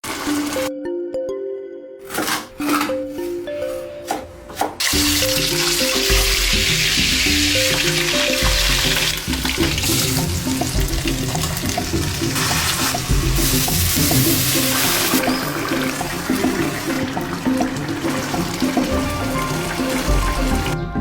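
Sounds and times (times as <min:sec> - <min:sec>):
music with steady beat: 0:02.7 - 0:21.0.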